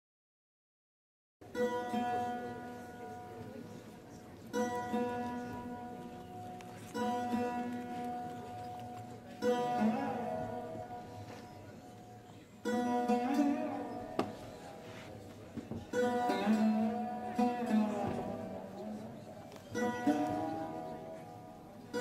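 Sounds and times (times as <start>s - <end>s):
plucked lute strings ringing: 1.4s - 22.0s.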